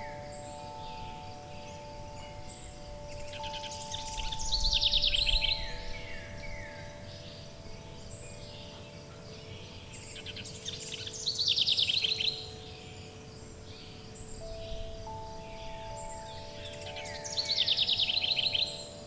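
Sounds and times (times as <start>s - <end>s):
soft background hiss: 0.0s - 19.0s
songbird trilling: 0.0s - 19.0s
wind chimes ringing: 0.0s - 19.0s.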